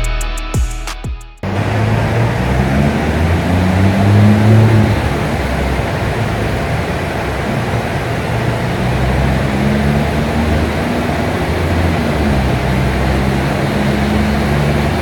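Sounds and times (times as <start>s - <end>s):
turbocharged car engine under load: 1.4s - 15.0s.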